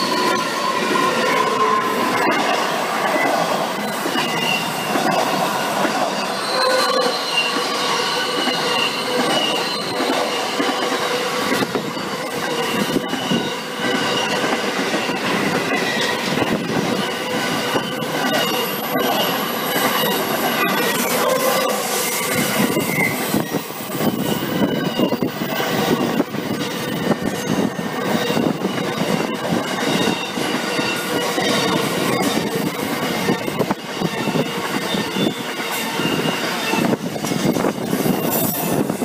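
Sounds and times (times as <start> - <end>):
freight train wheels squealing: 0.0 - 39.0
train wheels clacking over rail joints: 0.0 - 39.0.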